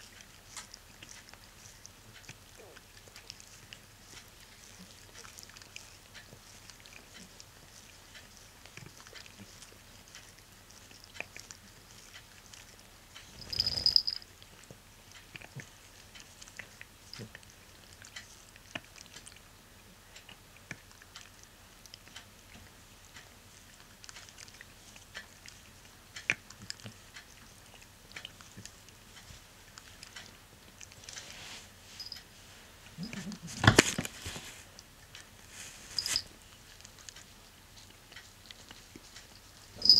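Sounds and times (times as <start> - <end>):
cat licking fur: 0.0 - 39.9.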